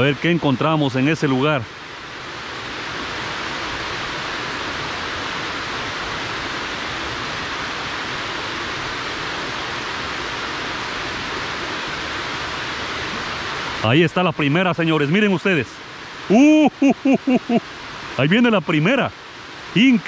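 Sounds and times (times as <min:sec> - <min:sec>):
water rushing down dam spillway: 0:00.0 - 0:20.0.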